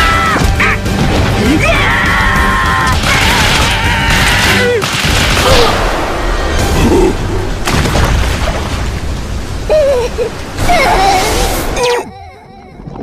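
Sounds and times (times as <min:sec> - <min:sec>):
heavy rain rushing: 0:00.0 - 0:12.8.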